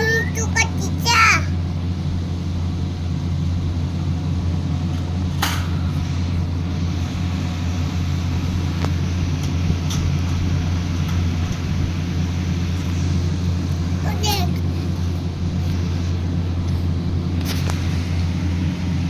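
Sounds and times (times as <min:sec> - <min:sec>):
steady low motor hum: 0:00.0 - 0:19.0.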